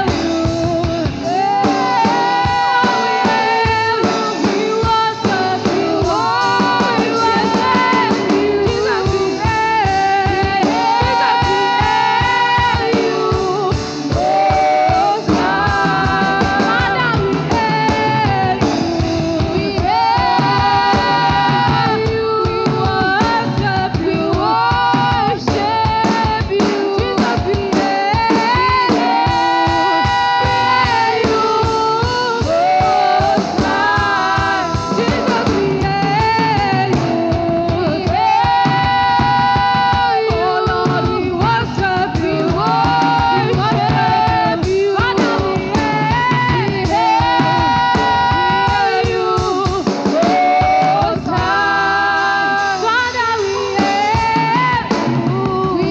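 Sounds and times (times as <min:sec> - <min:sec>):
band with drum kit and guitar: 0:00.0 - 0:55.9
person singing melody: 0:00.0 - 0:55.9.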